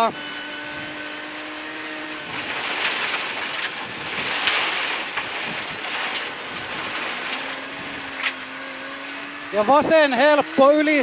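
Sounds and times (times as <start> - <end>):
car engine: 0.0 - 11.0
gravel spraying against car: 1.2 - 11.0.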